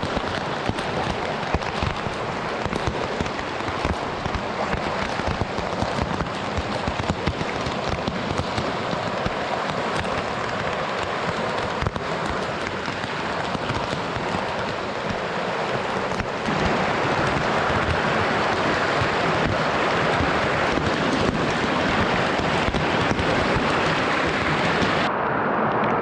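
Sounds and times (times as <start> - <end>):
running river water: 0.0 - 25.1
heavy rain: 0.0 - 26.0.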